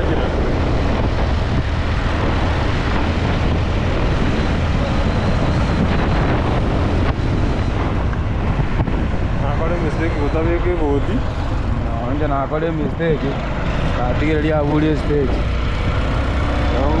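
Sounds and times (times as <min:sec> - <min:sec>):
heavy low rumble: 0:00.0 - 0:17.0
wind buffeting microphone: 0:00.0 - 0:17.0.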